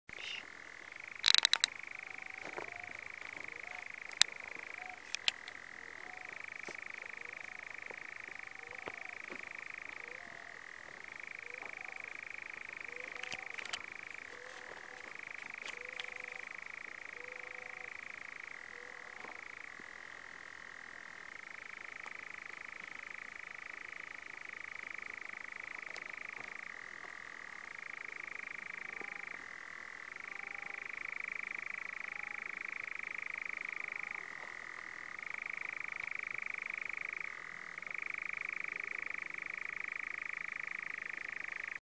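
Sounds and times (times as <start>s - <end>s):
nightjar churring trill: 0.1s - 41.8s.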